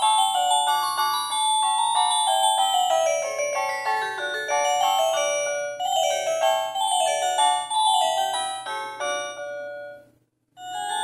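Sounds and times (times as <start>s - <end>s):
phone ringtone melody: 0.0s - 11.0s.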